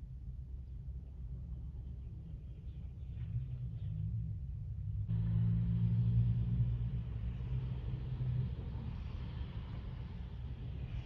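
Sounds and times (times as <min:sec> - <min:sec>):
car engine hum from inside: 0:01.4 - 0:11.0.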